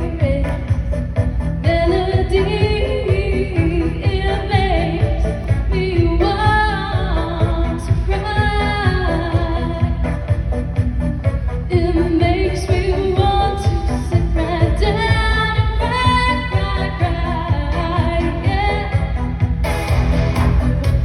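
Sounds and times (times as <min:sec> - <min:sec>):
woman singing pop song: 0:00.0 - 0:19.7
steady beat: 0:00.0 - 0:21.0.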